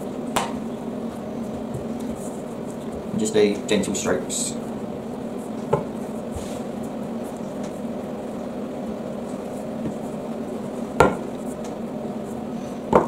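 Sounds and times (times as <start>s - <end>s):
rolling pin rubbing on pastry: 0.8s - 12.9s.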